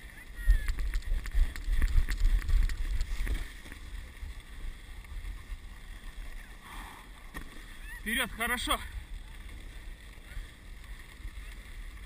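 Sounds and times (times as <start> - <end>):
wind rumble on microphone: 0.0 - 12.0
sled runners hissing over snow: 0.6 - 12.0.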